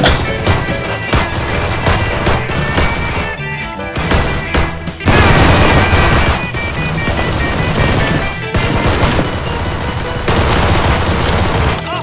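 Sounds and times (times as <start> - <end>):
rapid automatic gunfire: 0.0 - 3.4, 4.0 - 12.0
background music: 0.0 - 12.0.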